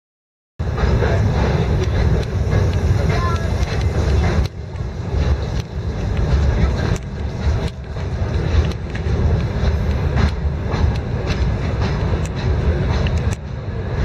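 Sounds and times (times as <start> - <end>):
low rumble of rail wagons: 0.6 - 14.0
wheels clicking on rails: 0.6 - 14.0.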